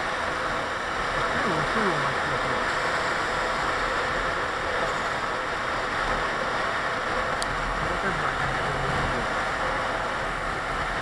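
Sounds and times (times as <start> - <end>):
motorcycle road noise: 0.0 - 11.0.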